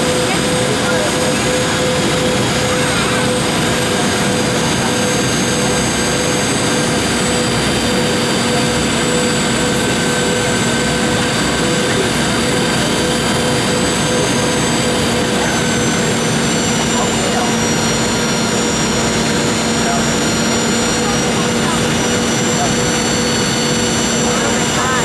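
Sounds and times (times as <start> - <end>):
jet engines heard in cabin: 0.0 - 25.0.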